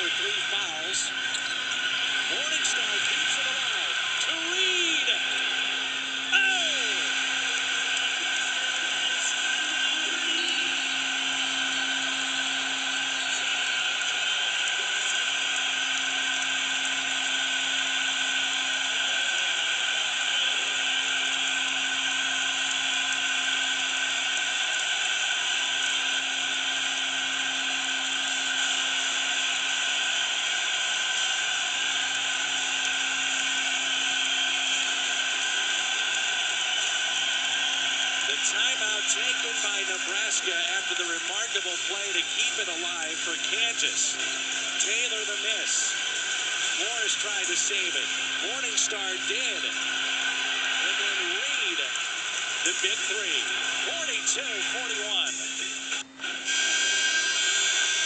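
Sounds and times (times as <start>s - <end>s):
crowd cheering through tv speaker: 0.0s - 58.0s.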